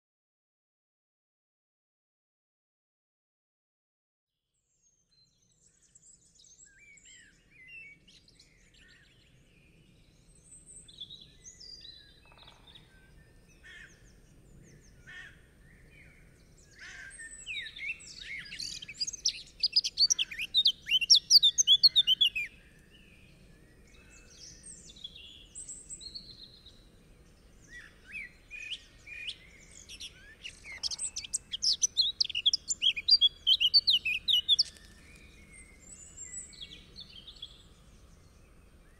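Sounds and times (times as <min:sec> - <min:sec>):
songbirds singing and chirping: 0:04.6 - 0:38.9.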